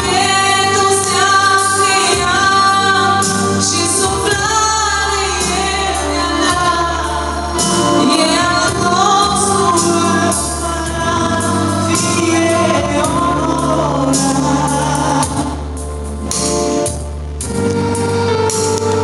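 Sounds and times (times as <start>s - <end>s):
woman singing into microphone: 0.0s - 15.8s
amplified instrumental accompaniment: 0.0s - 19.0s.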